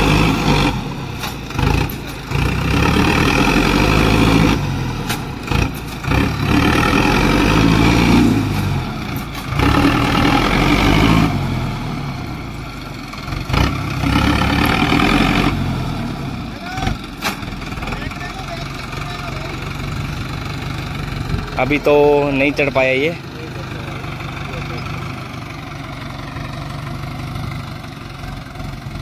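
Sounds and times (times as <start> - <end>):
tractor engine labouring: 0.0 - 29.0.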